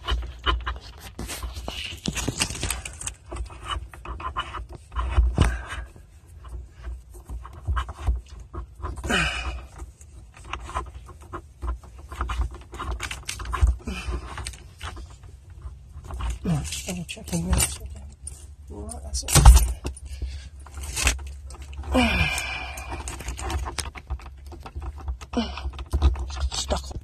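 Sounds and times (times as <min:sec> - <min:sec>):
wire rustling and scraping: 0:00.0 - 0:27.0.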